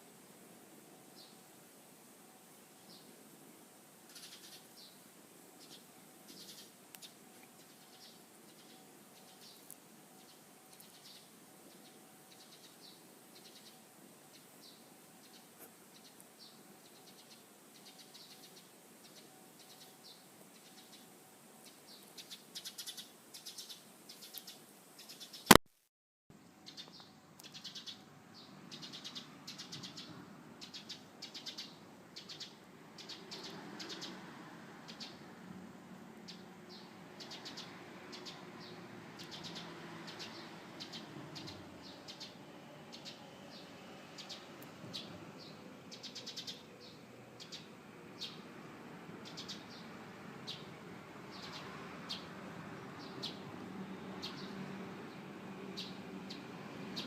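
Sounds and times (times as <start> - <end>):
faint low background noise: 0.0 - 57.0
small birds chirping: 2.7 - 3.2, 4.0 - 25.6, 26.6 - 35.4, 36.2 - 57.0.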